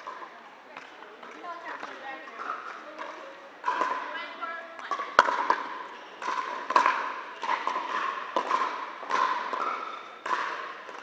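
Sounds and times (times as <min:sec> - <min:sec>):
paddles hitting plastic ball: 0:00.0 - 0:04.2, 0:04.8 - 0:11.0.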